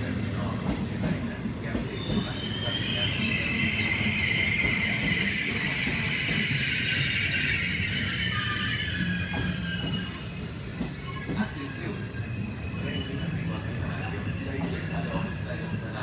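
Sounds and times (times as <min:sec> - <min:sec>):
train coaches rumbling past: 0:00.0 - 0:16.0
metallic wheel squeal: 0:02.0 - 0:16.0.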